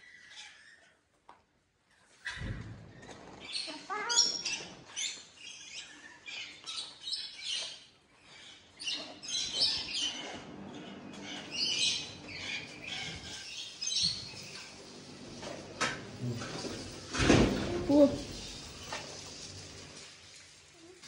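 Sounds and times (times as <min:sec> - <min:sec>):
birds squawking and chirping: 0:02.2 - 0:20.0.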